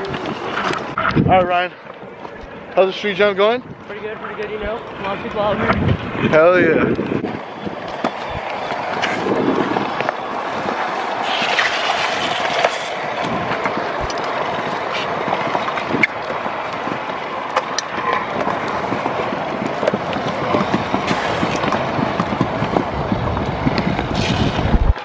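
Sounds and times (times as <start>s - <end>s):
scooter wheels rolling on concrete: 0.0s - 25.0s.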